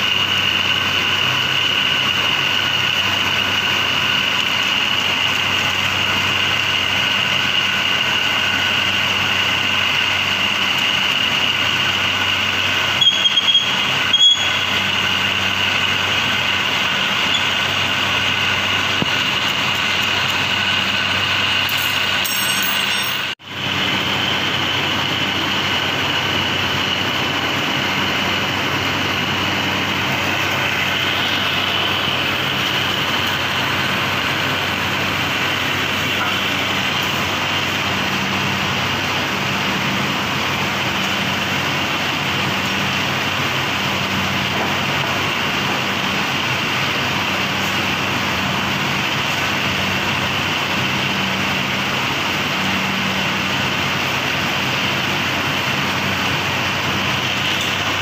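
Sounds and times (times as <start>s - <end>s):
high whine: 0.0s - 58.0s
machinery humming: 0.0s - 58.0s.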